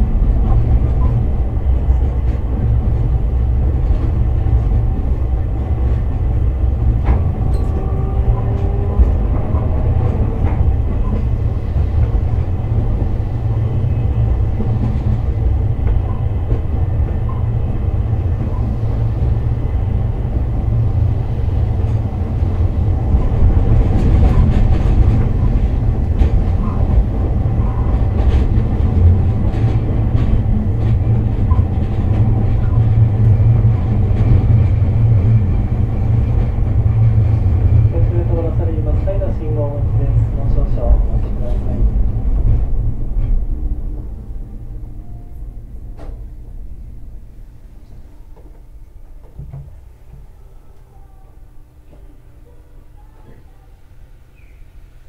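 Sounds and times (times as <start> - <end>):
rail clicks: 0.0 - 50.9
tram wheels rumbling on rails: 0.0 - 55.0.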